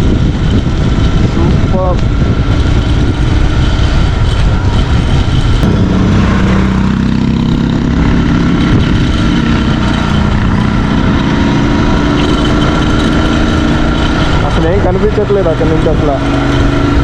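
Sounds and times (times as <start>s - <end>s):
heavy wind noise: 0.0s - 17.0s
vehicle engine drone: 0.0s - 17.0s.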